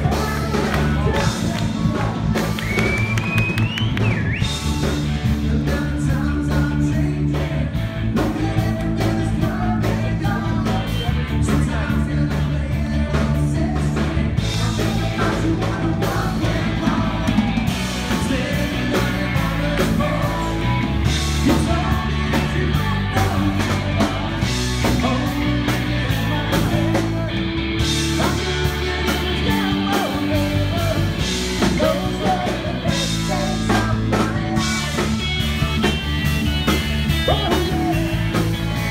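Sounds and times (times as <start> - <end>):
person singing: 0.0 - 2.9, 4.8 - 36.0, 36.6 - 38.9
live rock and roll band: 0.0 - 38.9.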